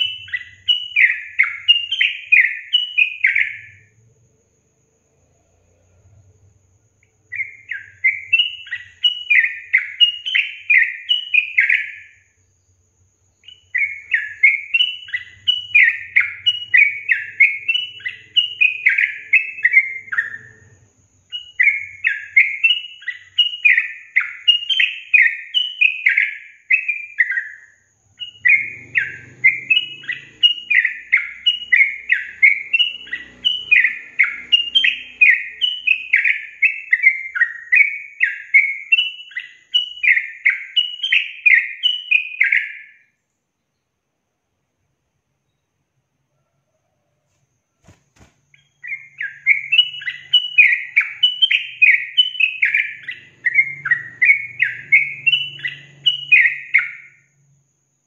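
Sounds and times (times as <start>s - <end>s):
bird song bubbly chirping: 0.0s - 4.0s, 7.1s - 12.3s, 13.3s - 43.0s, 48.5s - 57.3s.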